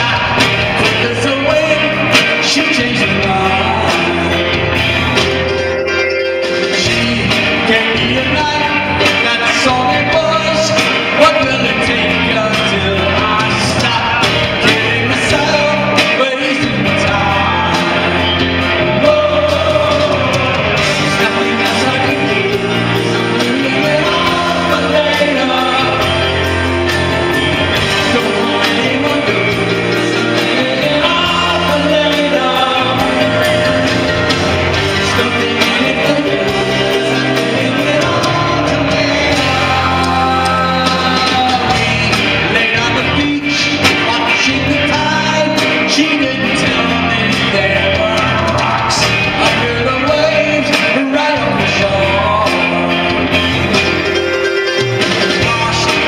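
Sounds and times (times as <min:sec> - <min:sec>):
drums: 0:00.0 - 0:56.0
man singing lead: 0:00.0 - 0:56.0
piano: 0:00.0 - 0:56.0.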